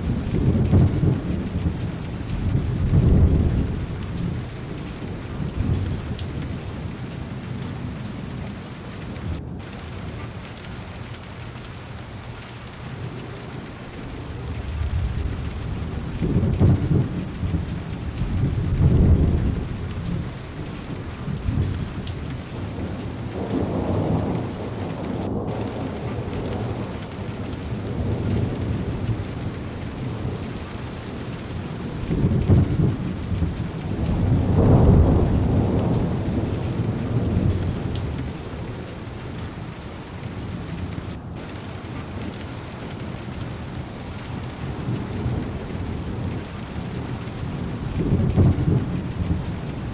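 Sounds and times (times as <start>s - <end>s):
heavy rain on car window: 0.0s - 49.9s
thunder rolling: 0.0s - 49.9s.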